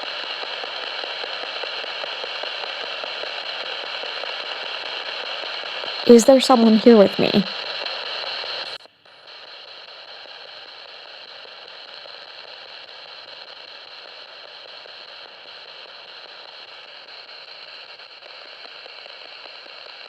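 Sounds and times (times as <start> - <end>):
radio static hiss: 0.0 - 19.7.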